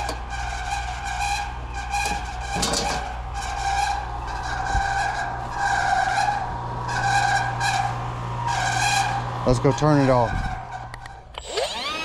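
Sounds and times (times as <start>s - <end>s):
air conditioner low hum: 0.0s - 12.0s
fan motor screeching: 0.0s - 12.0s.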